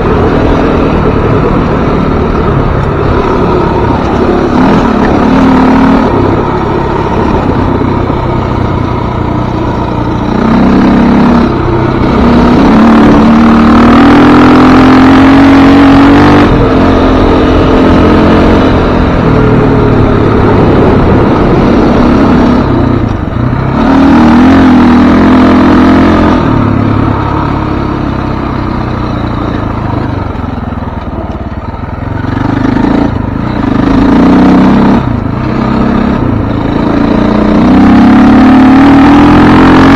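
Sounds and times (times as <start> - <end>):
dirt bike engine revving: 0.0 - 28.2, 32.2 - 39.9.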